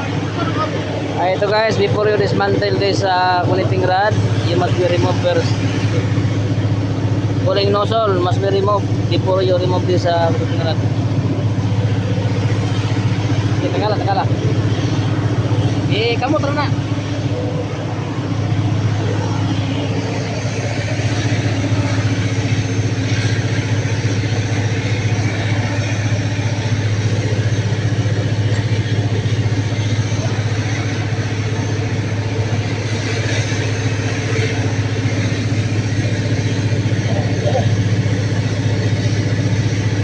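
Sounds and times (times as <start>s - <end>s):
engine droning steadily: 0.0s - 40.0s.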